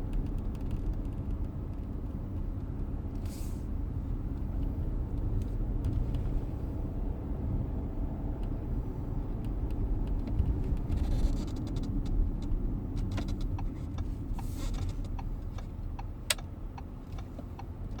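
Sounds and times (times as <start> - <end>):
low rumble in car cabin: 0.0 - 18.0.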